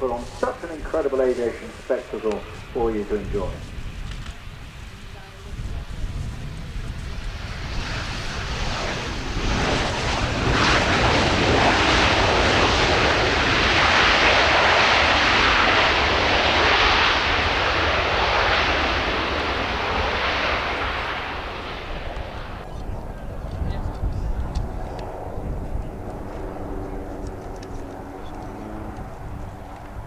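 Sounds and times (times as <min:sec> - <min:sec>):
aircraft engine passing overhead: 0:00.0 - 0:30.0.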